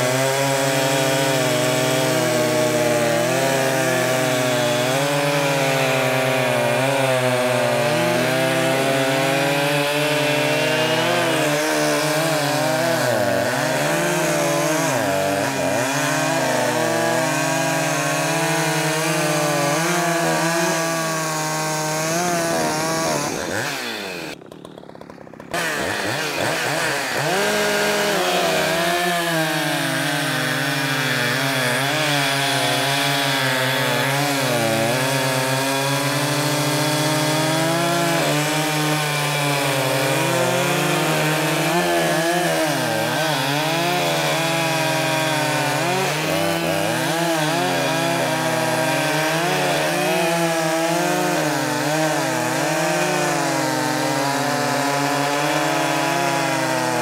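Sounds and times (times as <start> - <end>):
chainsaws cutting logs: 0.0 - 57.0.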